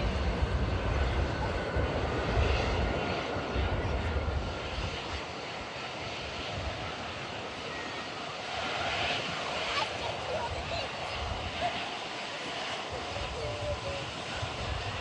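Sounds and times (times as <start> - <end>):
airliner engines: 0.0 - 15.0
wind buffeting microphone: 0.0 - 15.0.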